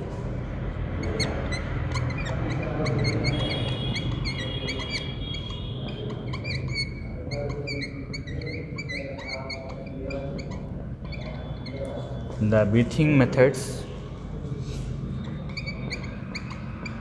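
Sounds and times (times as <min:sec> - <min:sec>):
marker squeaking on whiteboard: 0:00.0 - 0:12.6, 0:13.9 - 0:17.0.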